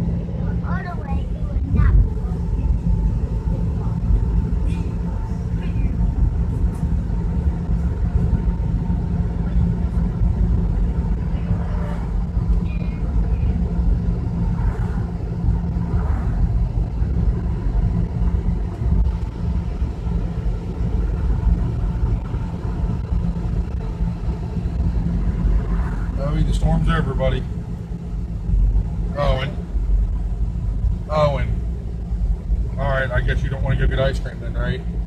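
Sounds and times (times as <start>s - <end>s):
vehicle road and engine noise: 0.0s - 35.0s.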